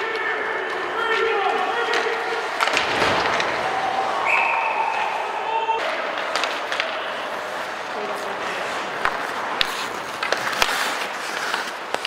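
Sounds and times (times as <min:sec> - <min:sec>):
clacks of stick and puck: 0:00.0 - 0:03.7, 0:05.8 - 0:12.0
spectators' voices: 0:00.0 - 0:11.9
skates scraping on ice: 0:00.0 - 0:12.0.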